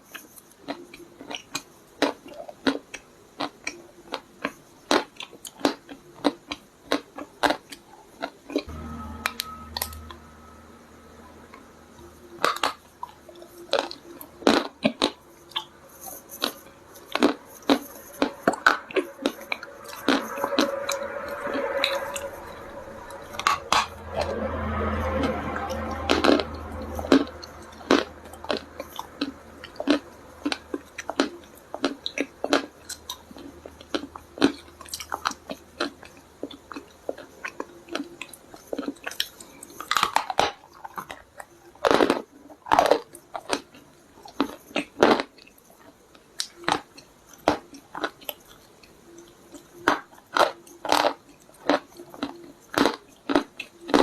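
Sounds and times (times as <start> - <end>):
soft chewing: 0.0 - 8.7, 12.4 - 21.0, 27.1 - 54.0.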